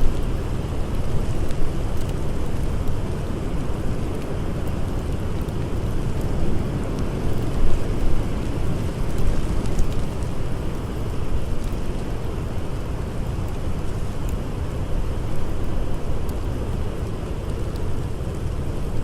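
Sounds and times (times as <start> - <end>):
faint campfire crackles: 0.0 - 19.0.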